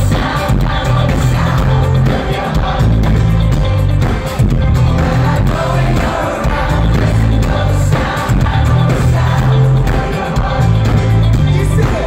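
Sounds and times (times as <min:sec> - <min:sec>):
bass line: 0:00.0 - 0:12.0
live rock band: 0:00.0 - 0:12.0.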